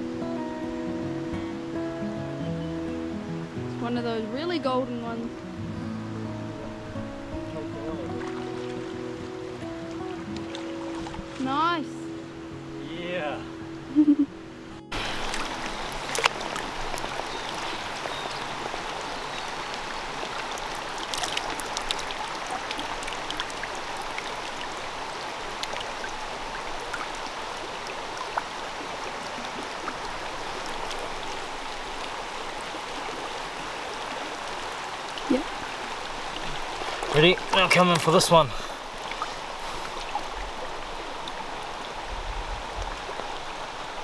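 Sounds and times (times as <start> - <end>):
stream water running over stones: 0.0 - 14.3, 14.9 - 44.0.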